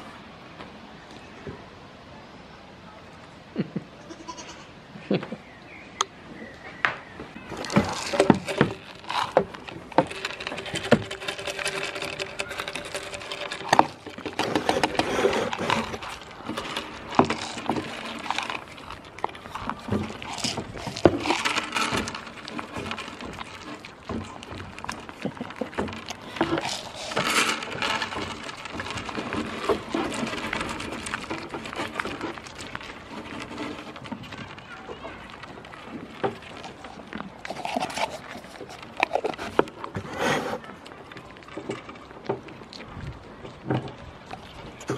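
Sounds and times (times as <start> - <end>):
goats chewing: 6.0 - 44.9
goat lips nosing beans: 7.4 - 44.9.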